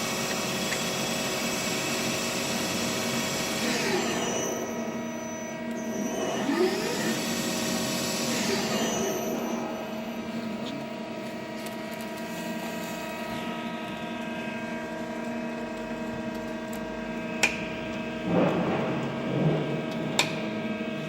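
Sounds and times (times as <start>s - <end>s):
lathe machine hum: 0.0s - 21.0s.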